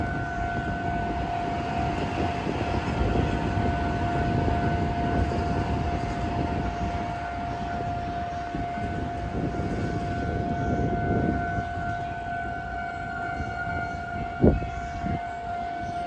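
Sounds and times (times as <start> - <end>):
level crossing warning tone: 0.0 - 16.0
low rumble of train passing: 0.0 - 16.0.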